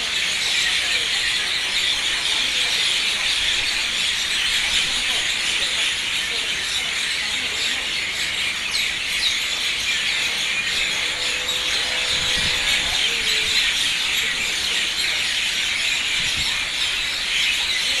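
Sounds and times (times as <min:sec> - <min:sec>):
flock of birds chirping: 0:00.0 - 0:18.0.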